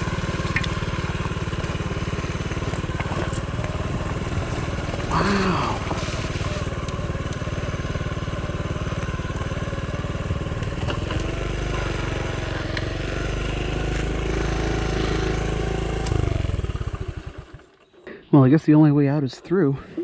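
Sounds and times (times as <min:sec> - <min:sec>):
small motorbike engine running: 0:00.0 - 0:17.8.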